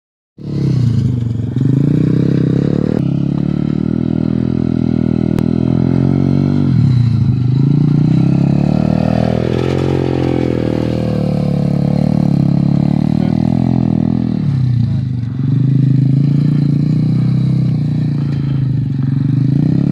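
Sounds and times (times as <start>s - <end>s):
motocross bike engine revving: 0.4s - 19.9s.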